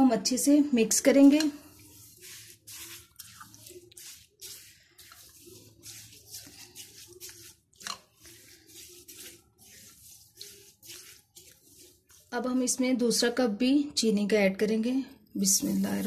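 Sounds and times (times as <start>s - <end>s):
spatula stirring in glass bowl: 0.4s - 13.2s.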